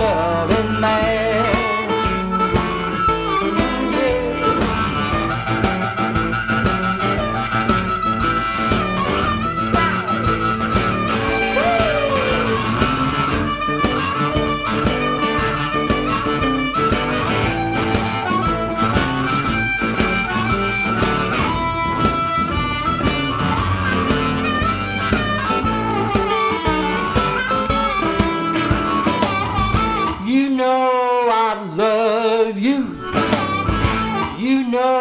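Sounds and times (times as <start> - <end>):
steady drum beat: 0.0 - 30.3, 32.9 - 34.6
amplified blues harmonica: 0.0 - 35.0
guitar: 0.0 - 35.0.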